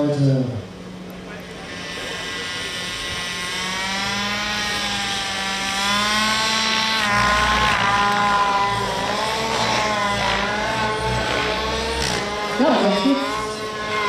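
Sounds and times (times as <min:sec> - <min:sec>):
rc helicopter engine buzzing: 0:00.0 - 0:14.0.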